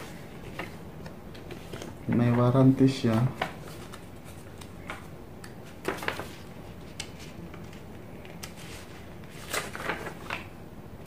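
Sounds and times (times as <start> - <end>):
paper rustling and crinkling: 0.0 - 10.6.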